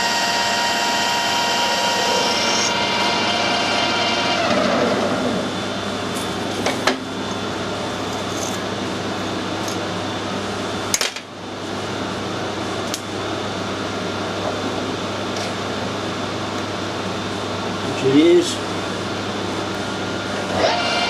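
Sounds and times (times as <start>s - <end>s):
machinery humming: 0.0s - 10.8s, 11.4s - 21.0s.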